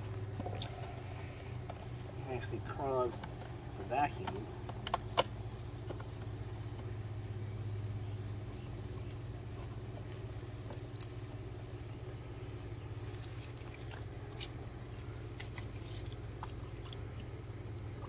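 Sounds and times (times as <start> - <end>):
pond pump humming: 0.0 - 18.0.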